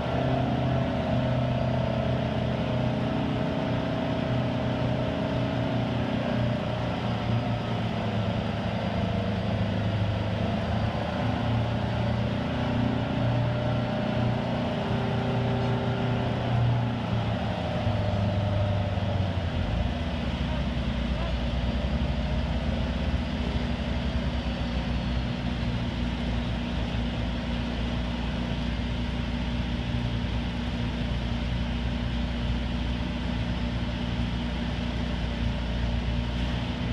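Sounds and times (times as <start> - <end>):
diesel crane engine running: 0.0 - 36.9.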